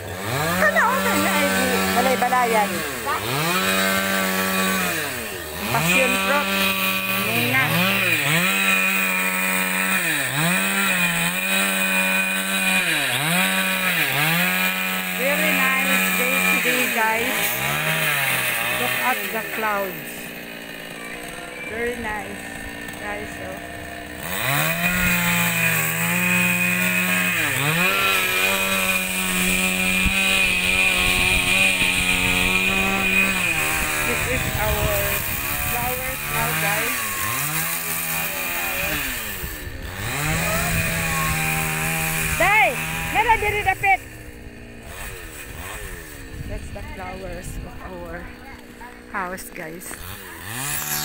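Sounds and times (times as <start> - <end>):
chainsaw running at high revs: 0.0 - 51.0.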